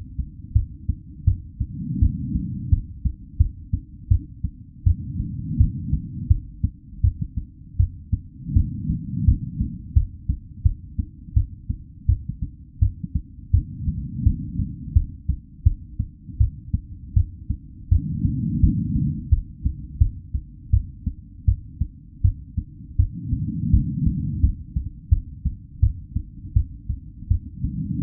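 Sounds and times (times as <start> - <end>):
heartbeat thuds: 0.0 - 28.0.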